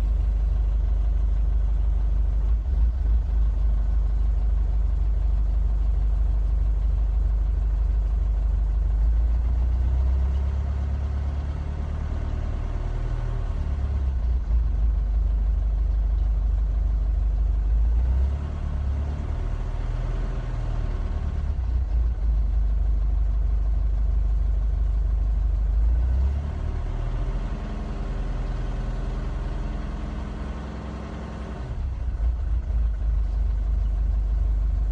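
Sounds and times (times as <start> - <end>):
diesel engine idling roughly: 0.0 - 18.7, 19.3 - 26.1, 31.7 - 34.9.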